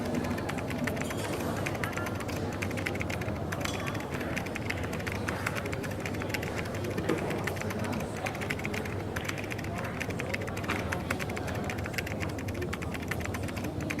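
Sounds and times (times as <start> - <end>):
background murmur: 0.0 - 14.0
small clicks and taps: 0.0 - 14.0.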